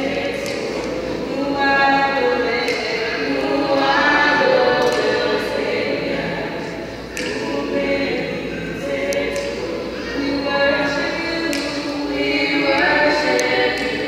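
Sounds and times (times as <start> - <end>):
women singing gospel in harmony: 0.0 - 14.0.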